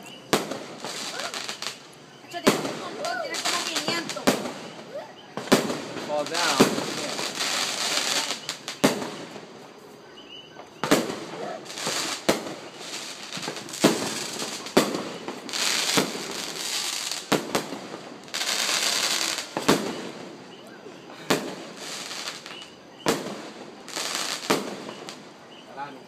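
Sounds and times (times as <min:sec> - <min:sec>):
fireworks bangs: 0:00.0 - 0:09.8, 0:10.6 - 0:26.0
fireworks hissing: 0:00.0 - 0:10.0, 0:10.6 - 0:26.0.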